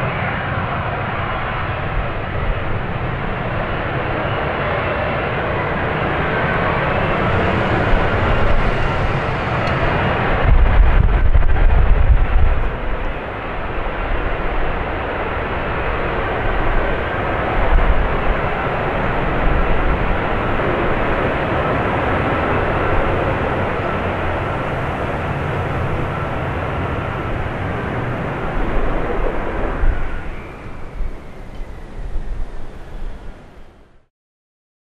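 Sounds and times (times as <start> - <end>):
faint engine whine: 0.0 - 34.1
loud steady jet noise: 0.0 - 34.1.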